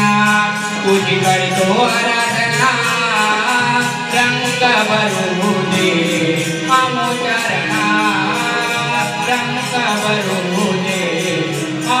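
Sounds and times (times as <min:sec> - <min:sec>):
keyboard: 0:00.0 - 0:12.0
percussion beat of bright ticks: 0:00.0 - 0:12.0
person singing: 0:00.0 - 0:12.0.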